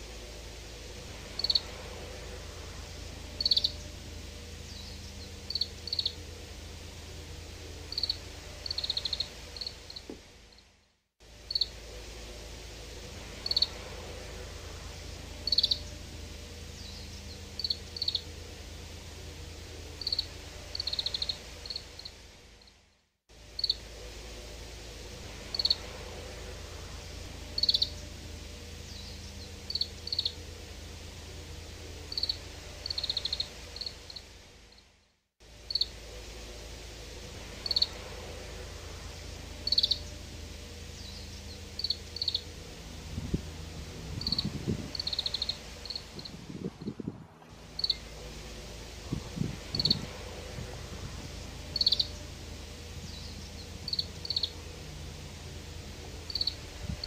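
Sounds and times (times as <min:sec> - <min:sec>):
low steady background noise: 0:00.0 - 0:57.0.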